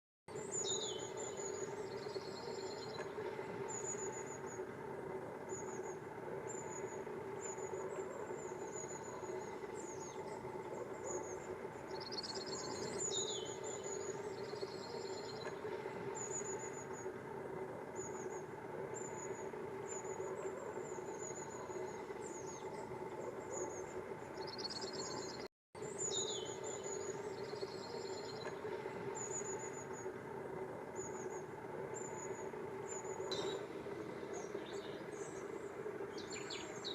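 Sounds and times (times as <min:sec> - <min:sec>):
birds calling with high notes: 0:00.3 - 0:36.9
low background hum: 0:00.3 - 0:36.9.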